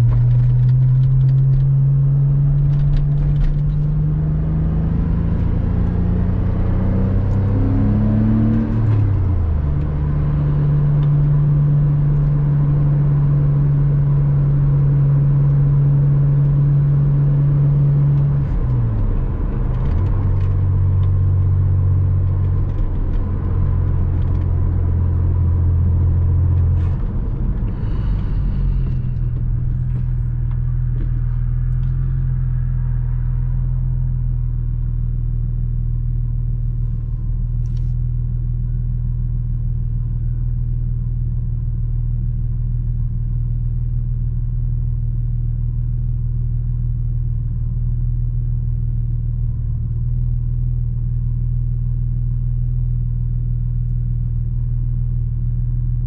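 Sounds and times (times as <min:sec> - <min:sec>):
car engine droning: 0:00.0 - 0:56.0
road rumble: 0:00.0 - 0:56.0.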